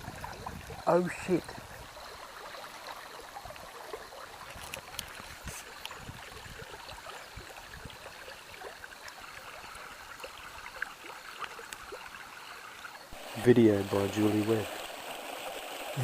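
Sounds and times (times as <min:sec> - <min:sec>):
creek water babbling: 0:00.0 - 0:16.0.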